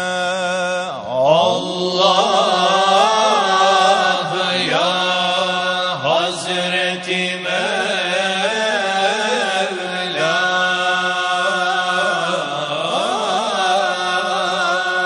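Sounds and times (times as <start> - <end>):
men singing a hymn: 0.0 - 15.0.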